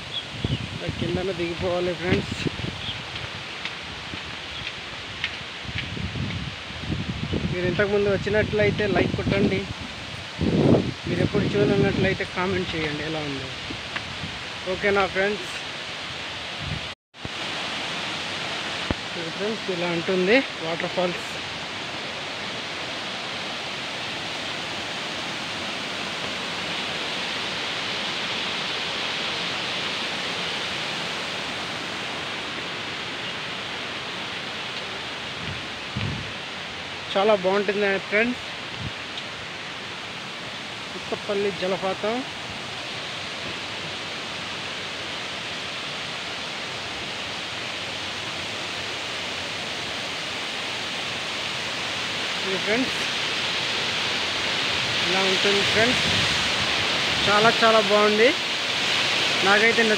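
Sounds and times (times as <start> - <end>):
waterfall over rocks: 0.0 - 59.9.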